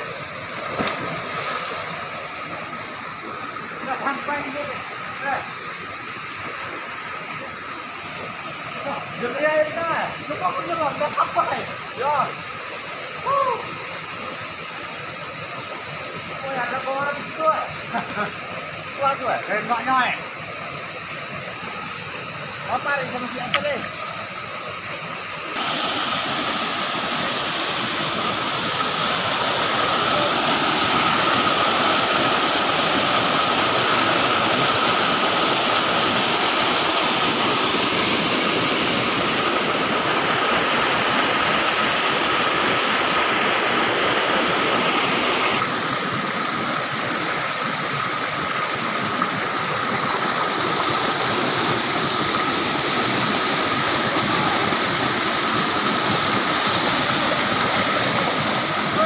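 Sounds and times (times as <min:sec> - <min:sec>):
waterfall water rushing: 0:00.0 - 0:59.0.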